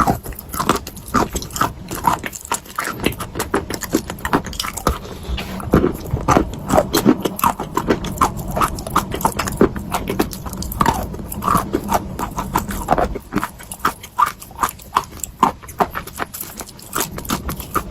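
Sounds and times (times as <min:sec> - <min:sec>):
chalk crunching in mouth: 0:00.0 - 0:17.9.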